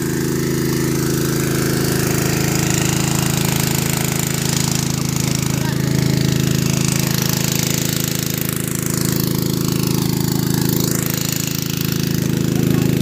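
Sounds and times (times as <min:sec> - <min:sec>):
water pump engine chugging: 0:00.0 - 0:13.0.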